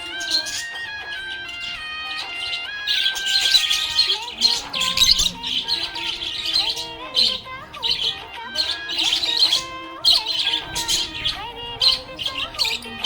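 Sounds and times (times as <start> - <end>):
budgerigar warbling: 0.0 - 13.0
budgerigars chirping: 0.0 - 13.0.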